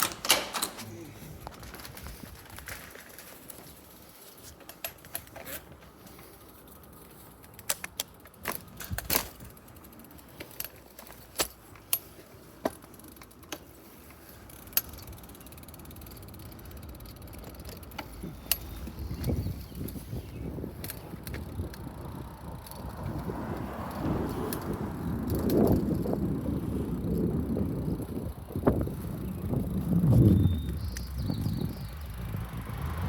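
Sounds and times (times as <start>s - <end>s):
bicycle clicks and rattles: 0.0s - 33.0s
low rumble of bicycle moving: 0.0s - 33.0s.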